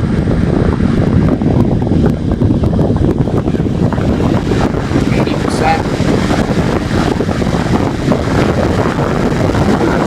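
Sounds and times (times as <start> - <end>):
computer fan rushing air: 0.0 - 10.0
wind buffeting microphone: 0.0 - 10.0.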